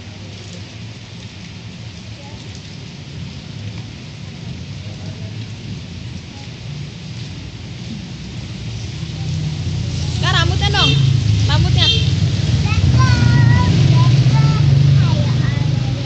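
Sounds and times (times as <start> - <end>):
rain hissing on concrete: 0.0 - 16.0.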